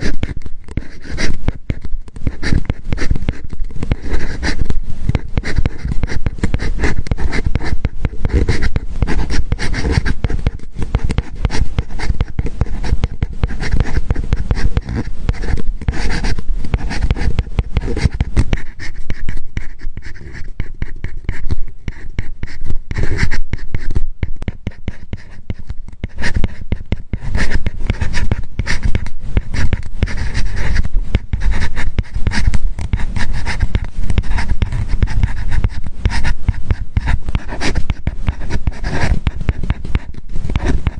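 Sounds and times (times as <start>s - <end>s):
stylus scratching on screen: 0.0s - 40.9s.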